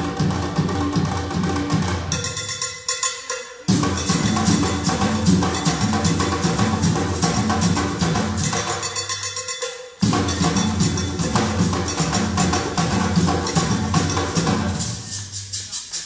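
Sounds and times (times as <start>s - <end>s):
percussion-heavy ensemble music: 0.0s - 16.0s.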